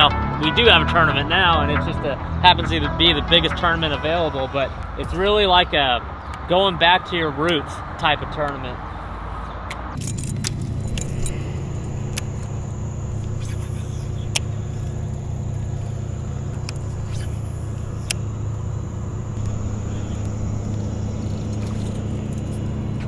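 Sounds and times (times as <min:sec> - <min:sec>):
boat motor humming: 0:00.0 - 0:06.5, 0:10.4 - 0:23.0.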